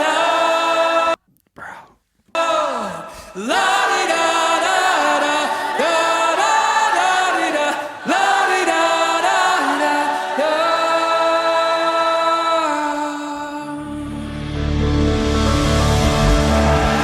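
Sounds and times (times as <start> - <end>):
voices singing worship song: 0.0 - 1.2, 2.4 - 17.0.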